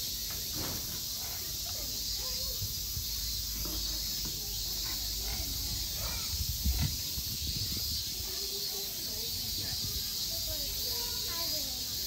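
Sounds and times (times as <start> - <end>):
faint distant voices: 0.0 - 12.0
outdoor background hiss: 0.0 - 12.0.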